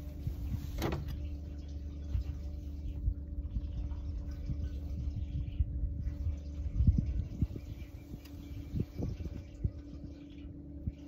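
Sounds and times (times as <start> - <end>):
boat motor running: 0.0 - 11.0
water lapping against hull: 0.0 - 11.0.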